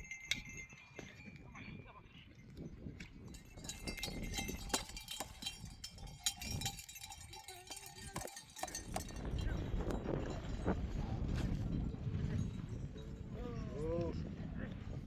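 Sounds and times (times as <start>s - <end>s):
livestock bells clanking: 0.0s - 13.9s.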